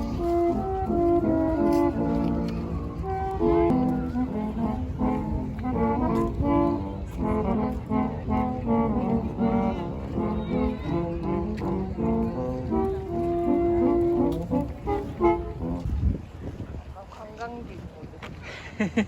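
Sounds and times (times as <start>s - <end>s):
brass melody: 0.0s - 16.0s.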